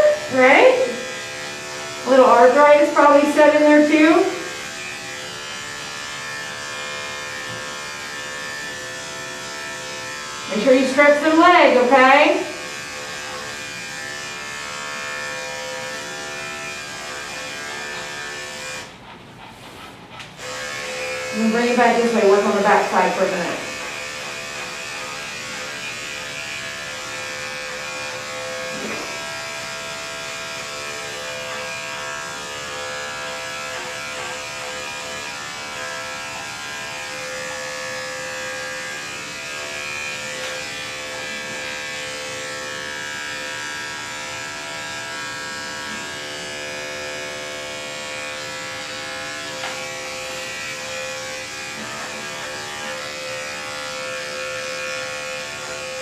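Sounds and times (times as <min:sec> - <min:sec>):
electric dog clipper humming: 0:00.0 - 0:56.0.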